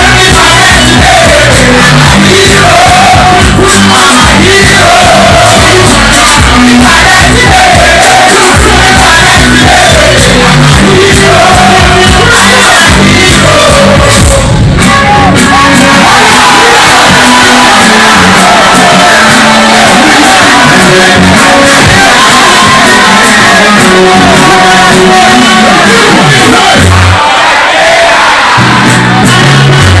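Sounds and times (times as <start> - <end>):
crowd shouting: 0.0 - 30.0
crowd singing along: 0.0 - 30.0
loud live music: 0.0 - 30.0.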